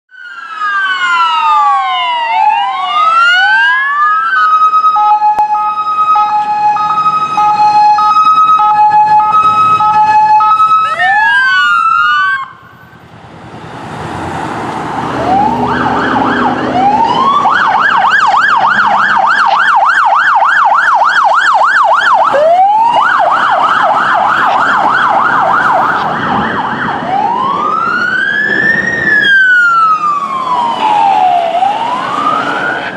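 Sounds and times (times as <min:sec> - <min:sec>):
siren yelp warble: 0:00.1 - 0:12.8, 0:15.1 - 0:32.9
two-tone hi-lo siren: 0:00.1 - 0:13.0, 0:15.0 - 0:32.9
police siren wailing: 0:00.1 - 0:32.9.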